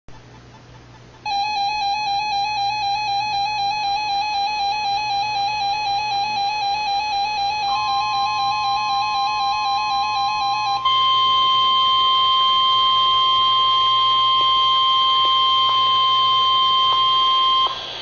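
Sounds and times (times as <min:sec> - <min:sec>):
warbling electronic alert tone: 0:01.3 - 0:17.9
steady beep: 0:01.3 - 0:18.0.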